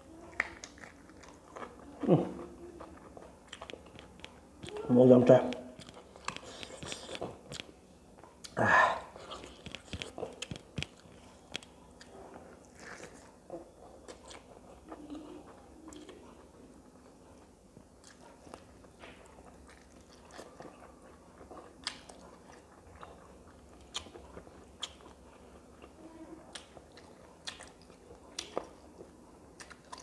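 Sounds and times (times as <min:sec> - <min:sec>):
person chewing food: 0:00.2 - 0:30.0.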